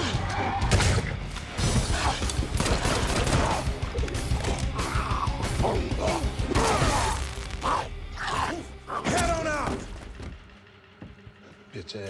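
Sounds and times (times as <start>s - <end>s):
action film music score: 0.0s - 12.0s.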